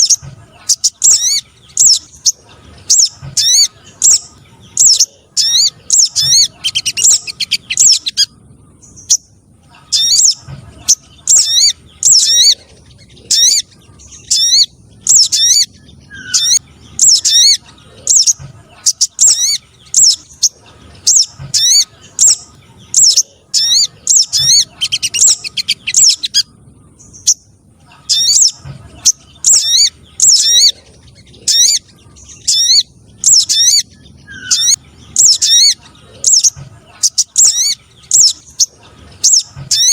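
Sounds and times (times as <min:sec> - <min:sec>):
high rising bird chirps: 0:00.0 - 0:39.9.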